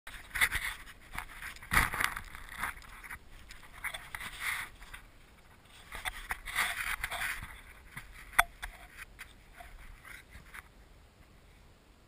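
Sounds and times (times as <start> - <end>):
dog rustling in dry grass: 0.1 - 10.7.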